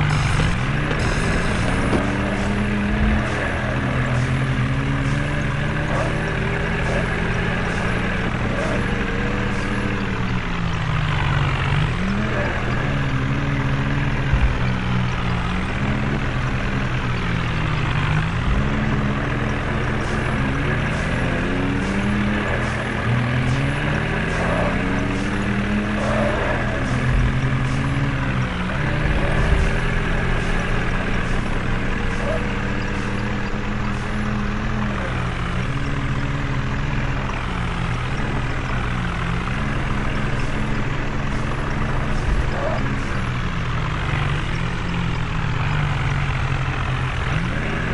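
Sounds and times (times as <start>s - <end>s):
tractor engine revving: 0.0s - 47.9s.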